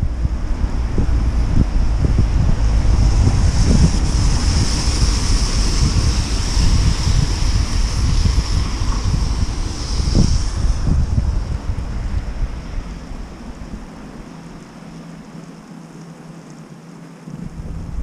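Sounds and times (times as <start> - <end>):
wind buffeting microphone: 0.0 - 16.3, 17.2 - 18.0
steady high hiss: 3.4 - 18.0.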